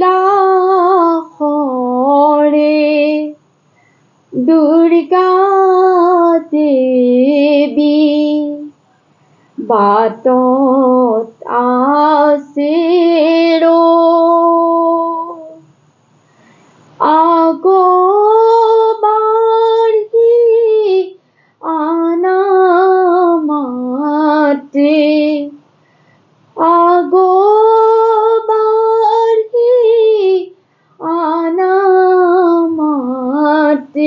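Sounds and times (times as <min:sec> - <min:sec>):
woman singing a devotional chant: 0:00.0 - 0:15.8, 0:16.4 - 0:34.0.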